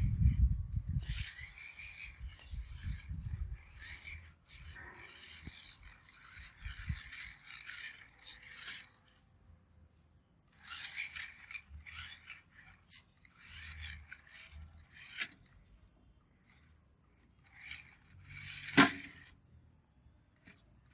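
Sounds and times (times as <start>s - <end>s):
toy crawler scraping and rubbing: 0.0s - 20.9s.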